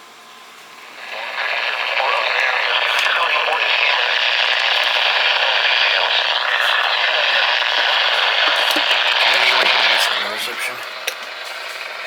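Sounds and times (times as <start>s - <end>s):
radio static hiss: 0.8s - 12.0s.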